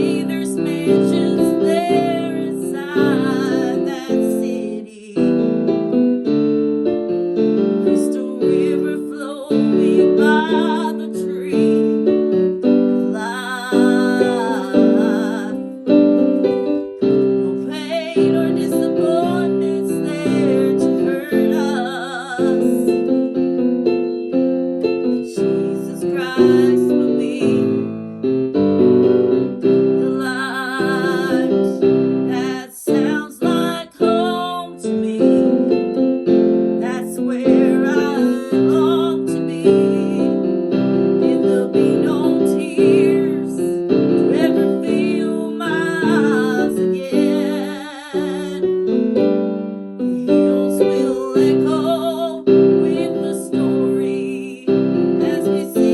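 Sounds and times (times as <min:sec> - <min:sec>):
piano chords with slow melody: 0:00.0 - 0:55.9.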